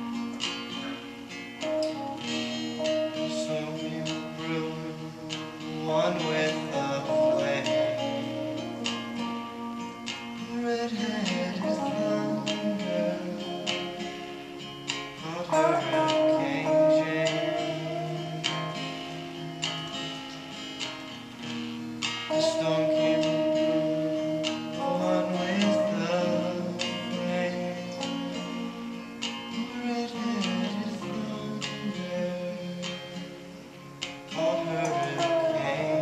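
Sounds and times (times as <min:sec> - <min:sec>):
acoustic guitar playing: 0:00.0 - 0:36.0
electric guitar sustained notes: 0:00.0 - 0:36.0.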